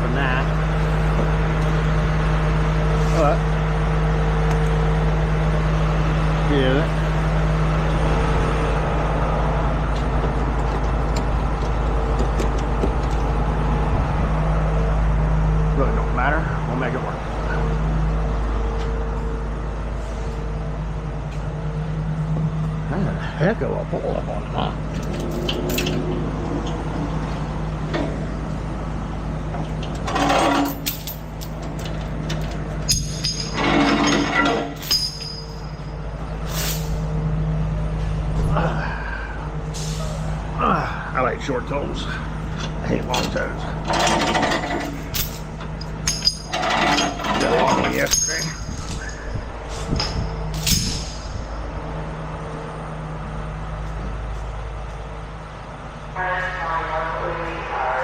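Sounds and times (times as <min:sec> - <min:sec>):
truck engine droning: 0:00.0 - 0:58.0.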